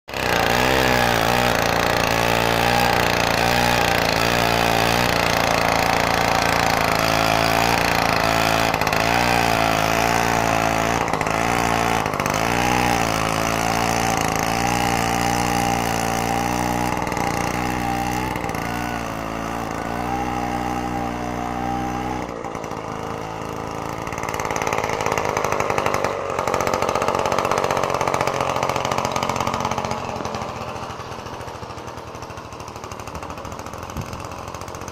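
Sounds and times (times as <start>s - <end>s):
two-stroke chainsaw engine running: 0.1s - 34.9s.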